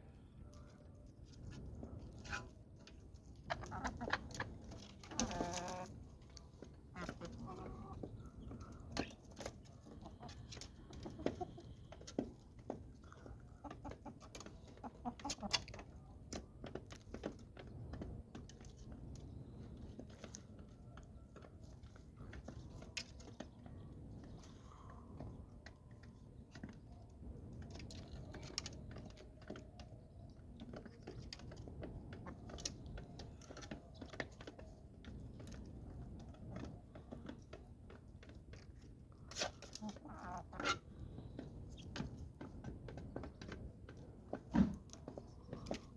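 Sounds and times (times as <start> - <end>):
chickens clucking: 0.1 - 45.9.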